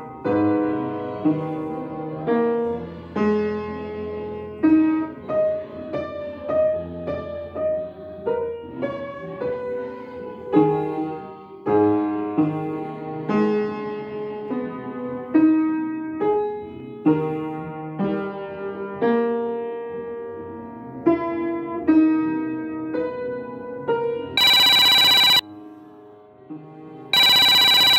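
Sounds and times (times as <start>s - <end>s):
slow piano piece: 0.0s - 24.4s.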